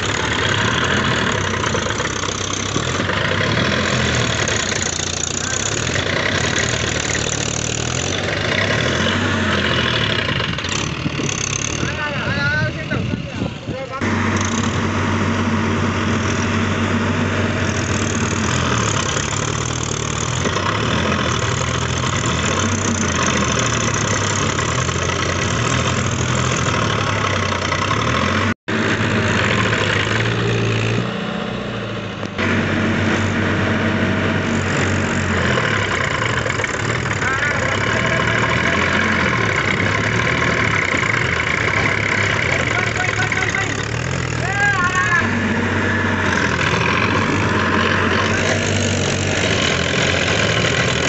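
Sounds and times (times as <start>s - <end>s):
tractor engines running under load: 0.0s - 51.0s.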